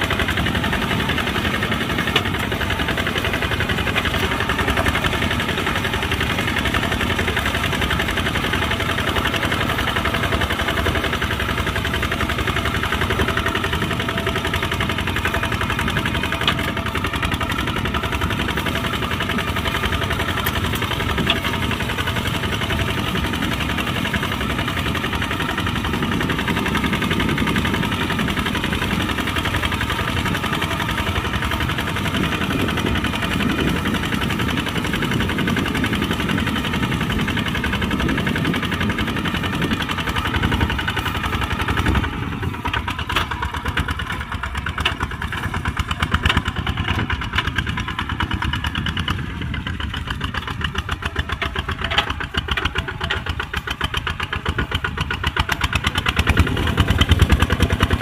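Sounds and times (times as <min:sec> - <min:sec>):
diesel engine knocking: 0:00.0 - 0:58.0.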